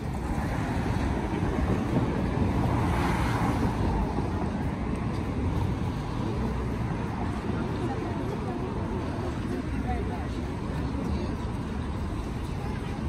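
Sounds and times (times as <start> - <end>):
steady traffic: 0.0 - 13.0.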